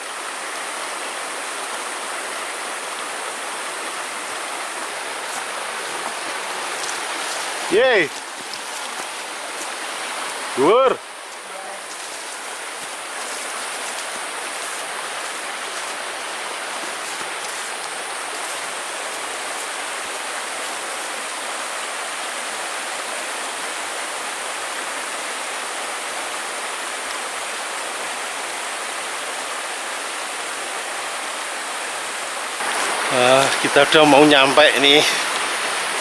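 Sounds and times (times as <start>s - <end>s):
river flowing over rocks: 0.0s - 36.0s.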